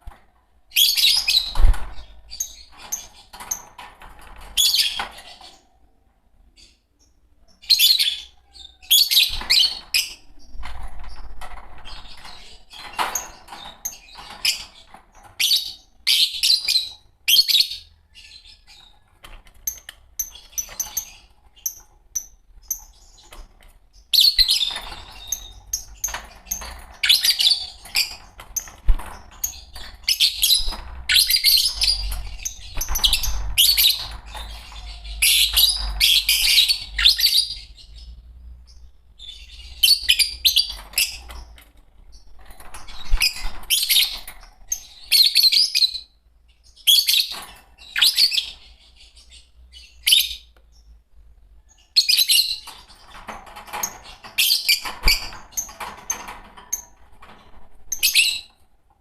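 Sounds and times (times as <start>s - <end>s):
lovebirds chirping: 0.6s - 58.6s.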